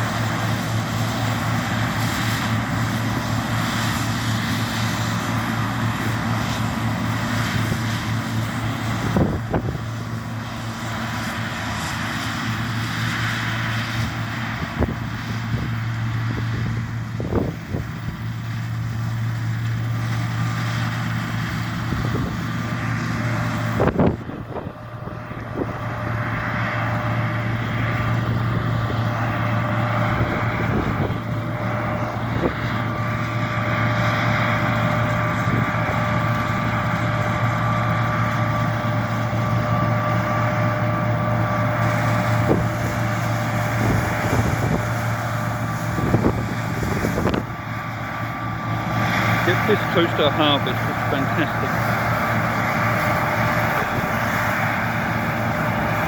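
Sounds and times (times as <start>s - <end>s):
combine harvester engine drone: 0.0s - 56.0s
threshing machinery whine: 0.0s - 56.0s.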